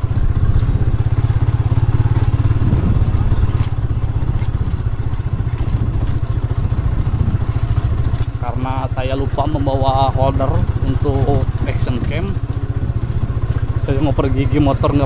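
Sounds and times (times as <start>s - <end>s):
motorcycle engine running: 0.0s - 15.0s
small clicks and rattles: 0.0s - 15.0s.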